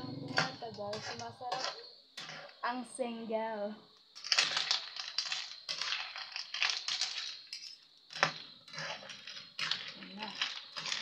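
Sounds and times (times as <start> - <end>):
metal spoon scraping a metal pan: 0.0 - 2.7, 4.2 - 11.0.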